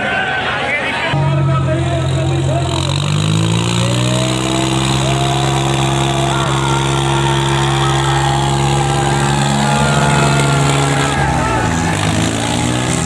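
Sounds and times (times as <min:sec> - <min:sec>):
tractor diesel engines straining: 0:01.1 - 0:13.0.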